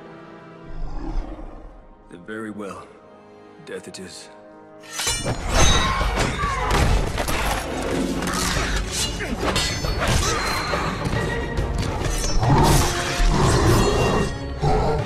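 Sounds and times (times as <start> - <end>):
dramatic score music: 0.0 - 15.0.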